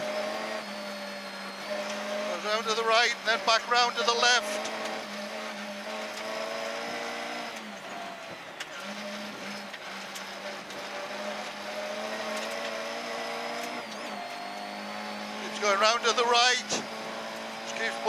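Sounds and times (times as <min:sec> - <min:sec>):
rally car engine revving: 0:00.0 - 0:18.0
tyres on gravel: 0:00.0 - 0:18.0.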